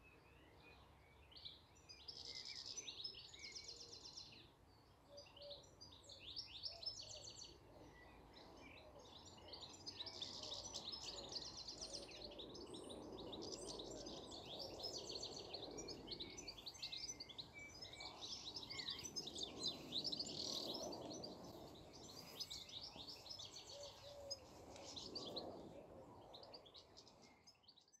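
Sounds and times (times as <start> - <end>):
birds singing: 0.0 - 28.0.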